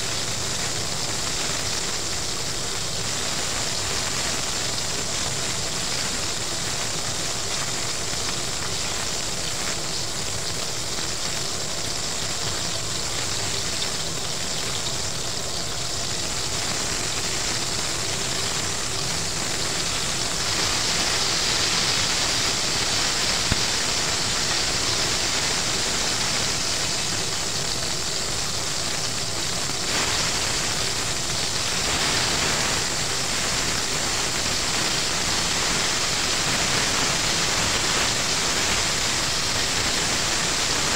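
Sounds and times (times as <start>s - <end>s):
chicken frying in hot oil: 0.0s - 40.9s.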